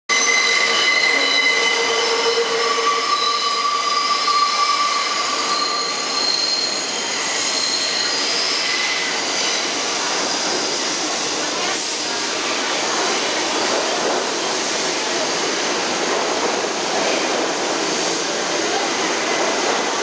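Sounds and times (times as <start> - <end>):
subway wheels squealing: 0.1 - 20.0
train running noise: 0.1 - 20.0.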